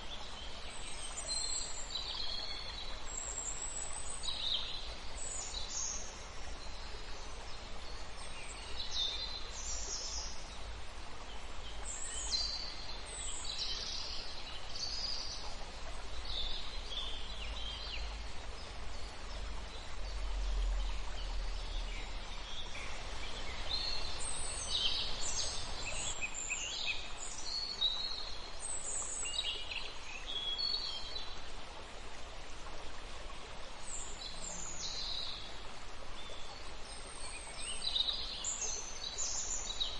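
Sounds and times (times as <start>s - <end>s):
low rumble and hiss: 0.0s - 39.9s.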